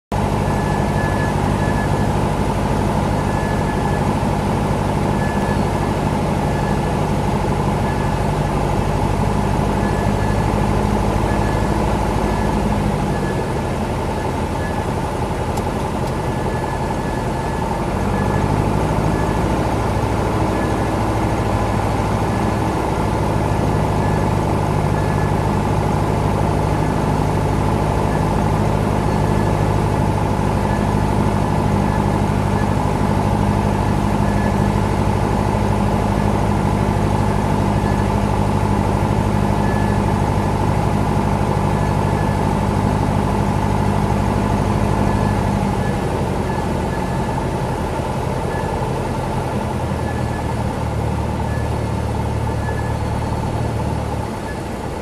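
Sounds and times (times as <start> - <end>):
aircraft piston engine and propeller: 0.1 - 55.0.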